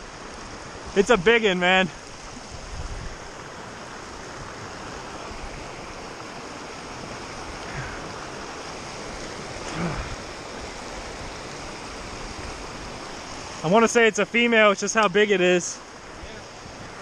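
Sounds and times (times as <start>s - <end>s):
creek water rushing over rapids: 0.0s - 17.0s.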